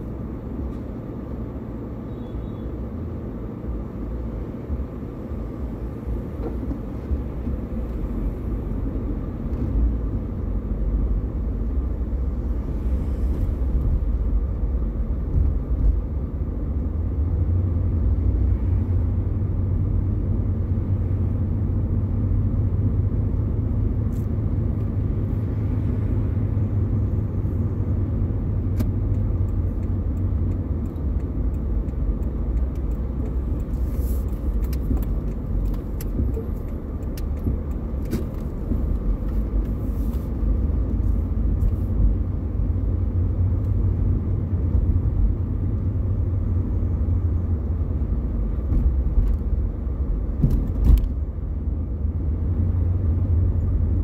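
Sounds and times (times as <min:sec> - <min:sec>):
engine rumble: 0:00.0 - 0:54.0
tyres on the road: 0:00.0 - 0:54.0.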